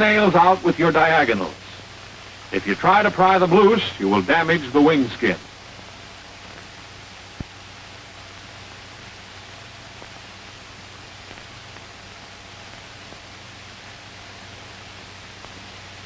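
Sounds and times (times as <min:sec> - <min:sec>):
film soundtrack hiss: 0:00.0 - 0:16.0.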